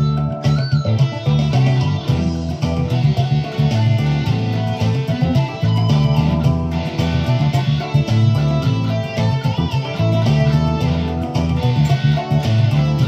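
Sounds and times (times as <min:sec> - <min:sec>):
electric guitar boogie: 0:00.0 - 0:13.0.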